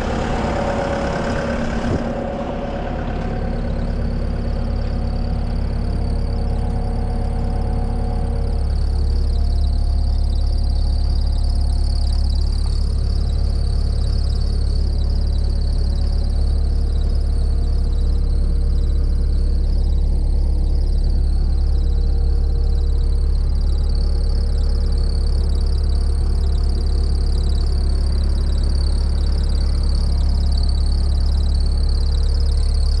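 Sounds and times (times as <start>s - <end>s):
diesel engine running: 0.0s - 33.0s
high-pitched whine: 0.0s - 33.0s.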